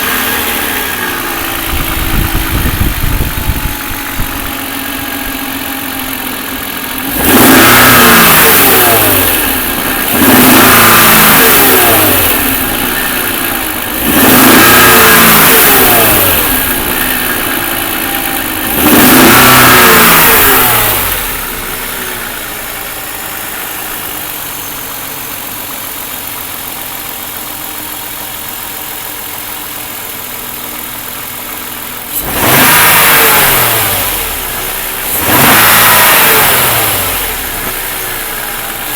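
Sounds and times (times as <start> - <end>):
car engine idling and revving: 0.0 - 38.9
engine knock: 0.0 - 38.9.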